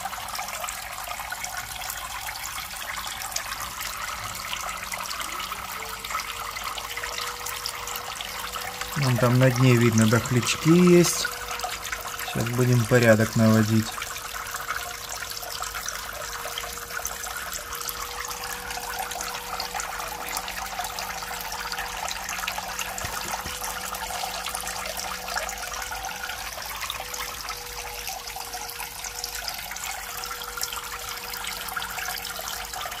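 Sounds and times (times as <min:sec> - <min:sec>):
faint steady hum: 0:00.0 - 0:33.0
water trickling into tank: 0:00.0 - 0:33.0.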